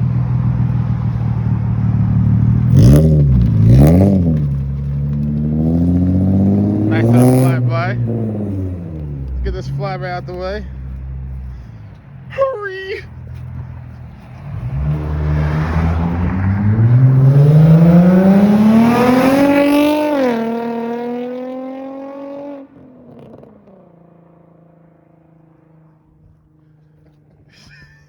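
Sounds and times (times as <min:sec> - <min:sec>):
car accelerating past: 0:00.0 - 0:11.7, 0:13.3 - 0:26.4.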